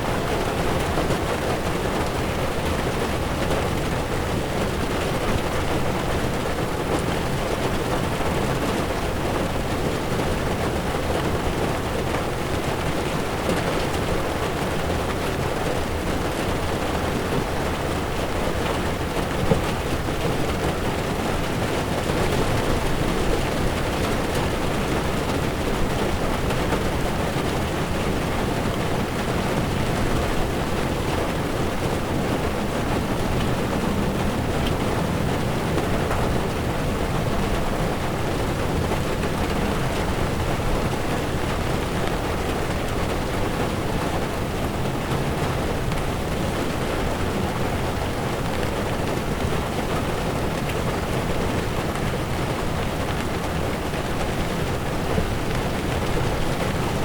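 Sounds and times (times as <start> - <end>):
heavy rain on a car: 0.0 - 57.0
tyres rumbling on wet road: 0.0 - 57.0.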